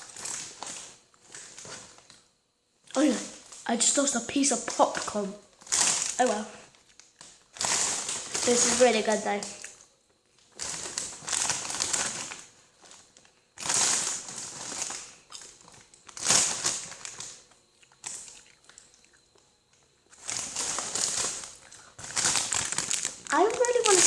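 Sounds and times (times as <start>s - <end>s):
plastic bag crinkling: 0.0s - 2.3s, 2.9s - 24.0s.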